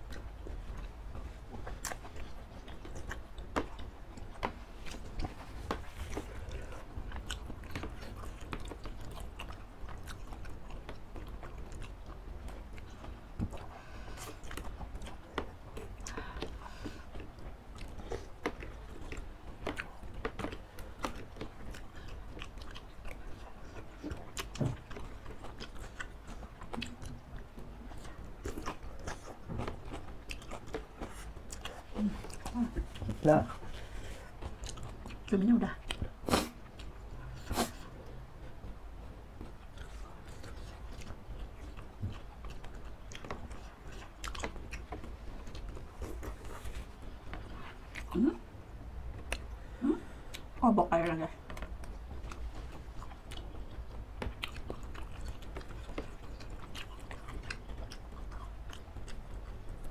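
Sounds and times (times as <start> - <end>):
wet chewing and biting: 0.0 - 50.6, 51.4 - 59.9.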